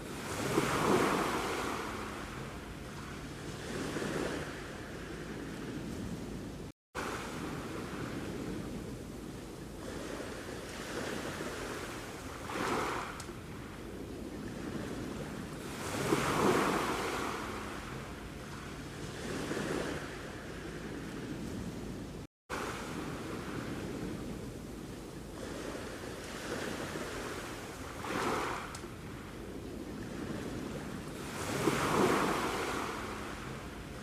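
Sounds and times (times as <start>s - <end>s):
sea waves washing onto shore: 0.0s - 34.0s.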